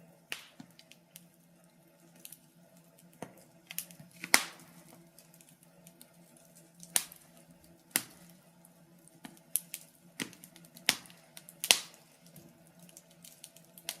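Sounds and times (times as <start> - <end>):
firewood crackling and popping: 0.0 - 14.0.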